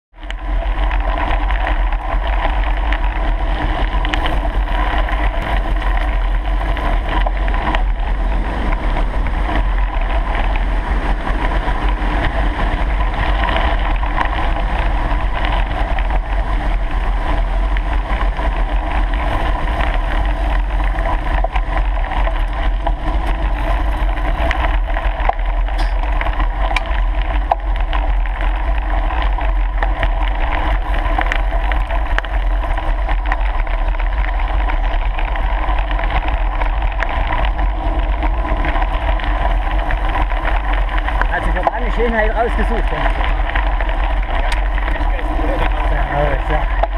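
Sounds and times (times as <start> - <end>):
wind on microphone: 0.1 - 46.9
bicycle tyres on gravel: 0.2 - 46.9.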